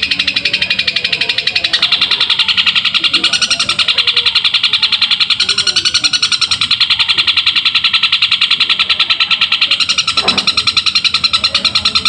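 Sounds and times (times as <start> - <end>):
bird chattering song: 0.0 - 12.0.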